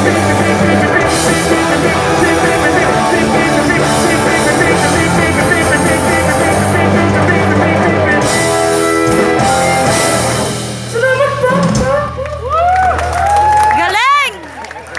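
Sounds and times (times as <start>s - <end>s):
live rock band playing: 0.0s - 12.5s.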